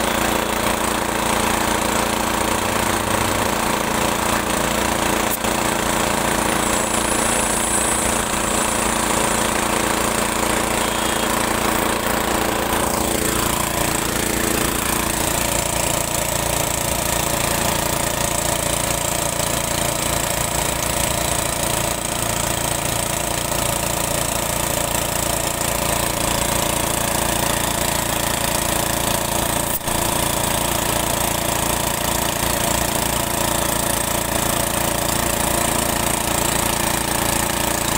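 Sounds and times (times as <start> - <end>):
air compressor running: 0.0 - 37.9.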